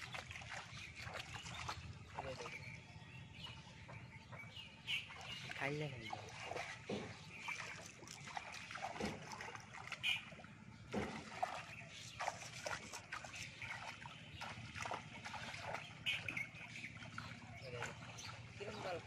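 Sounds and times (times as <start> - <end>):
sharp splashes: 0.0 - 2.7, 4.9 - 19.0
water sloshing around wading legs: 0.0 - 19.0.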